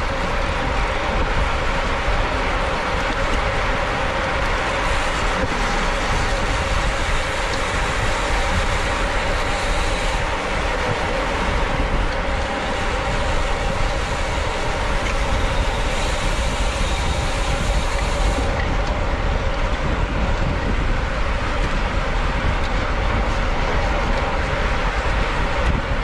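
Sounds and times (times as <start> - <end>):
bicycle tyre road rumble: 0.0 - 26.0
wind rush on microphone: 0.0 - 26.0.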